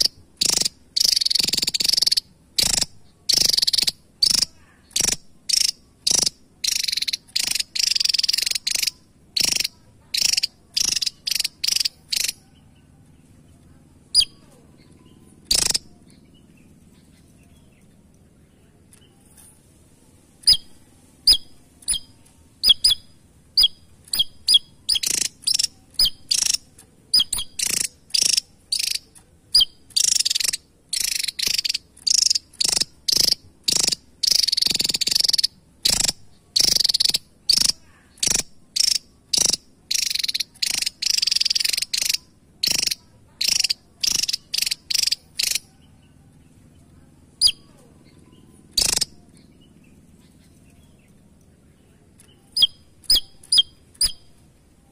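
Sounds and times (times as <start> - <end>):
bird calling: 0.0 - 17.9, 20.4 - 51.2, 51.9 - 54.9.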